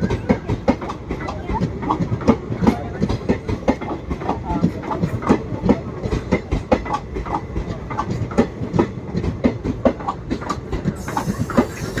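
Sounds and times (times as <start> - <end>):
train rumble: 0.0 - 12.0
train wheels clattering: 0.0 - 12.0.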